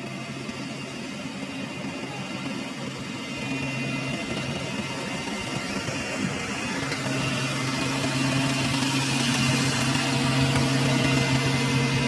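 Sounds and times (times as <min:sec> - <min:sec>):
combine harvester engine hum: 0:00.0 - 0:12.0.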